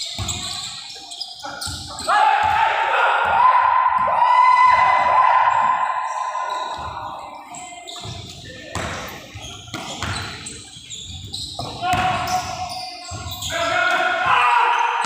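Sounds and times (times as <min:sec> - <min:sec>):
voices: 0:00.0 - 0:15.0.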